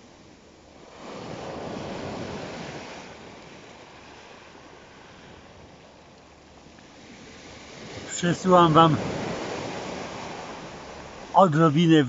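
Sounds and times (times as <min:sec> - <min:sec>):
wave washing over pebbles: 0:00.0 - 0:12.0.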